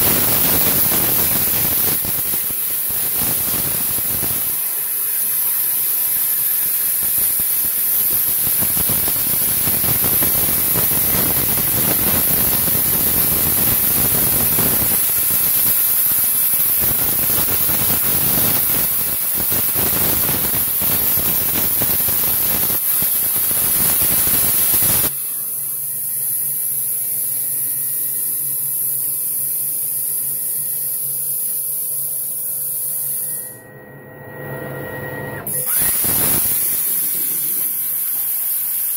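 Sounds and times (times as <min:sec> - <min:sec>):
plasma torch arc hissing: 0:00.0 - 0:33.4, 0:35.5 - 0:38.9
steady hum with whining tones: 0:00.0 - 0:38.9.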